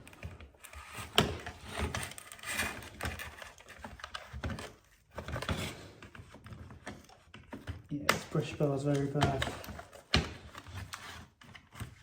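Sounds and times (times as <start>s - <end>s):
plastic parts clicking and scraping: 0.0s - 12.0s.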